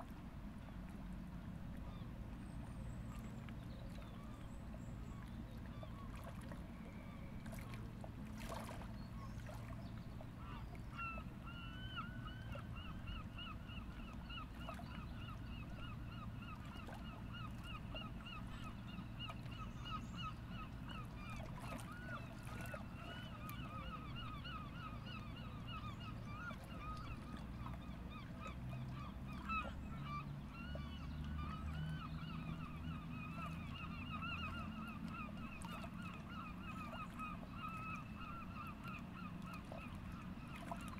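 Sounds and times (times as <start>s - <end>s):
low steady rumble: 0.0s - 40.9s.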